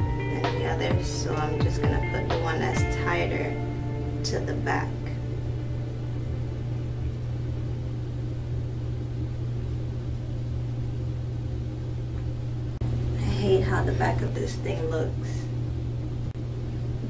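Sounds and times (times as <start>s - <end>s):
low rumble: 0.0s - 14.2s
steady low hum: 0.0s - 17.0s.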